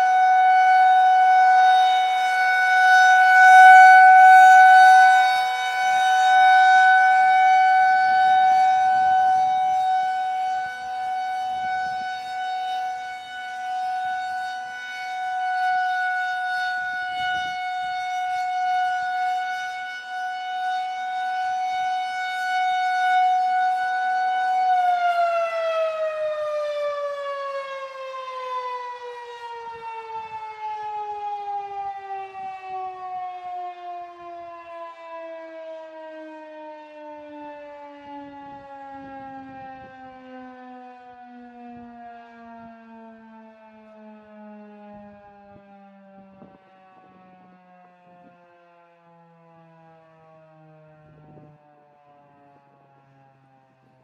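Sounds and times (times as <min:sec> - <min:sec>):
rotating warning siren: 0:00.0 - 0:54.0.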